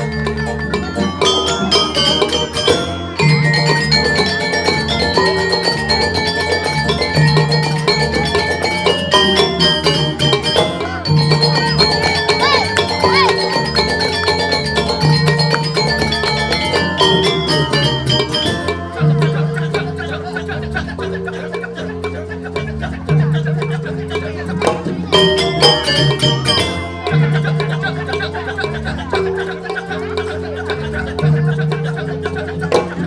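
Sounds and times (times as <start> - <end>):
gamelan metallophones ringing: 0.0 - 33.0
low bass tone: 0.0 - 33.0.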